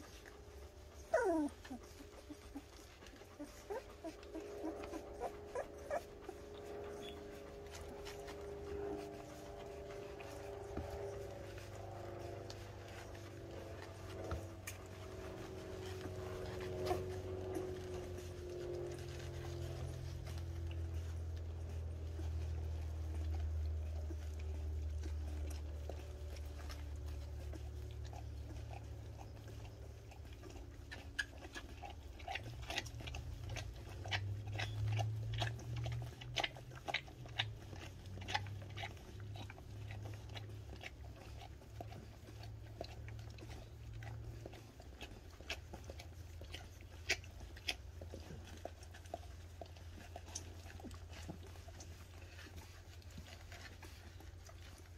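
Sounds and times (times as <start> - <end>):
dog licking puppies: 0.0 - 54.9
steady low hum: 0.0 - 54.9.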